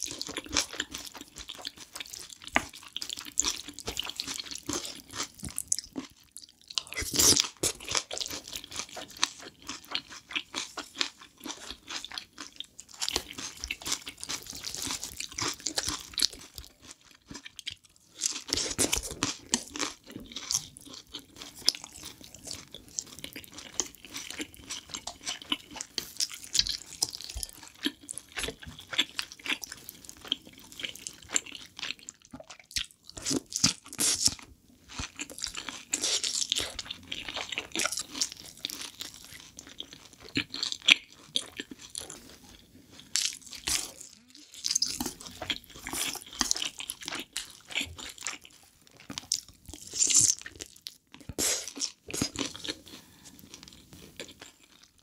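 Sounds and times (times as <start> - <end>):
close chewing and crunching: 0.0 - 55.0.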